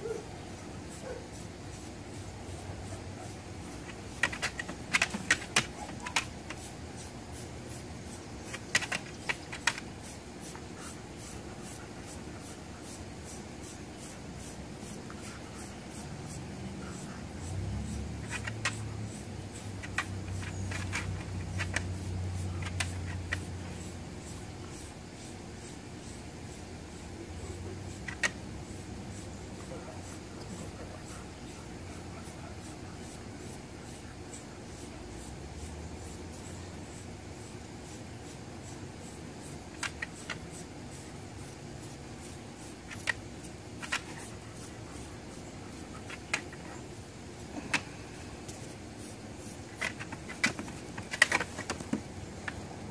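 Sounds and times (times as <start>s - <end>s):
grooming tool raking dog fur: 0.0s - 52.0s
low steady hum: 0.0s - 52.9s.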